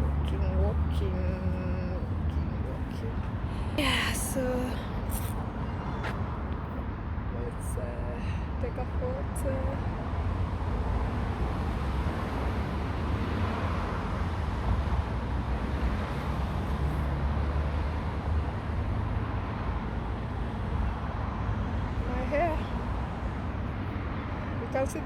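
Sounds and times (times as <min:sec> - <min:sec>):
cars passing: 0:00.0 - 0:25.0.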